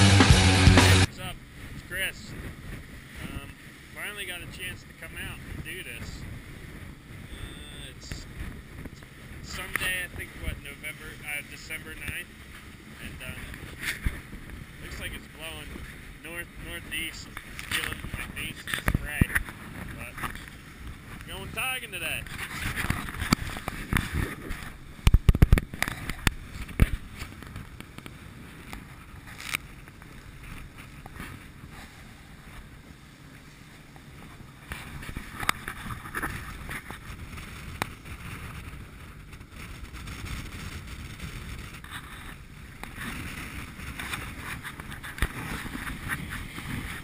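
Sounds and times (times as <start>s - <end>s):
steady low rumble: 0.0s - 47.0s
wind buffeting microphone: 0.3s - 47.0s.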